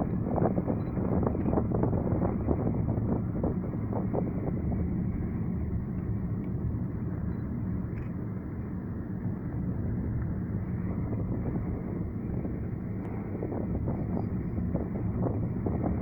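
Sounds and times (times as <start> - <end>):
car engine and tyre rumble: 0.0 - 16.0
wind buffeting microphone: 0.0 - 16.0.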